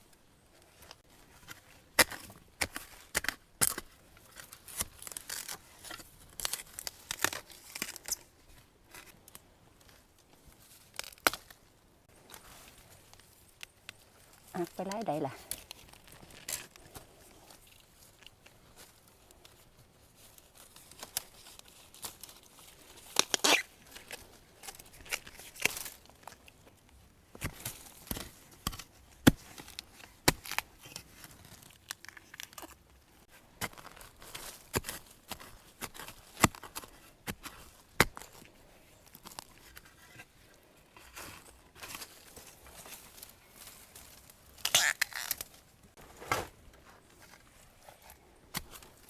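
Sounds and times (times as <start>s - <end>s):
dry leaves and twigs crackling: 0.5s - 49.0s.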